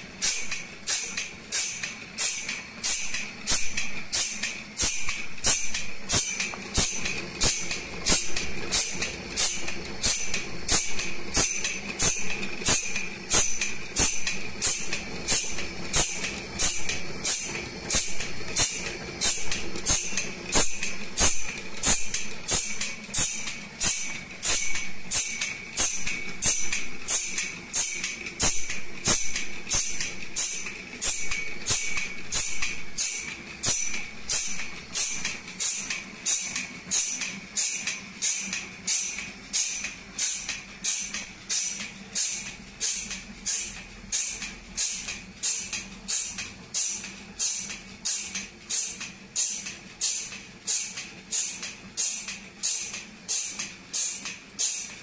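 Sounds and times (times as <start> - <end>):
steady high machine whine: 0.0 - 55.0
grinding wheel hissing on blade teeth: 0.2 - 54.9.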